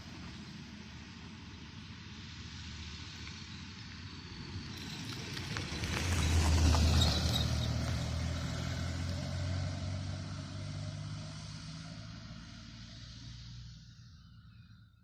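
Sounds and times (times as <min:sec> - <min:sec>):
lorry diesel engine passing: 0:00.0 - 0:14.6.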